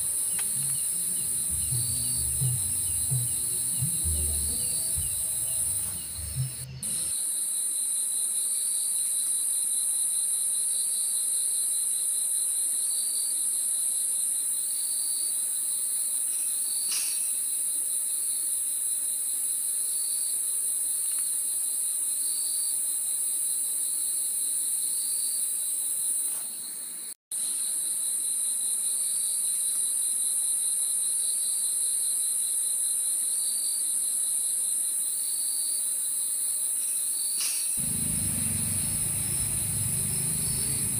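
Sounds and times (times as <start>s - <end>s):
crickets trilling: 0.0s - 40.9s
lower cricket chirp: 0.0s - 40.9s.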